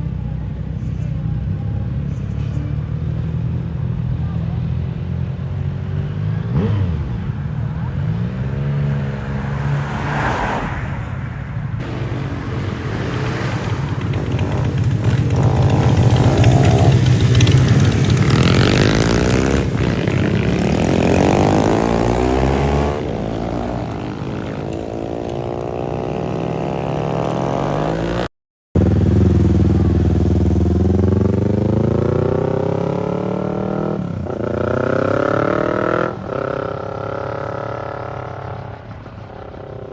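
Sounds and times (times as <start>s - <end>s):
motorcycles revving past: 5.6s - 39.9s.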